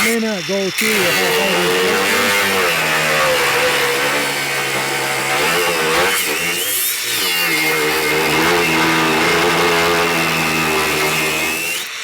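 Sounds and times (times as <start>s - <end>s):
angle grinder cutting: 0.0s - 12.0s.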